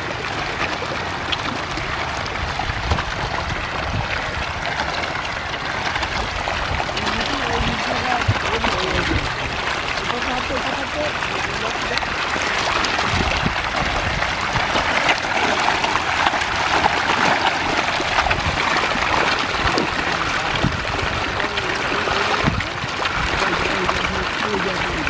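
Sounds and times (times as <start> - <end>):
fish thrashing and splashing water: 0.0 - 25.0.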